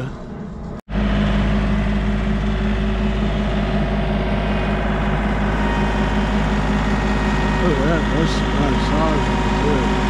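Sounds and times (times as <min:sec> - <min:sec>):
tractor engine idling: 0:00.9 - 0:10.0.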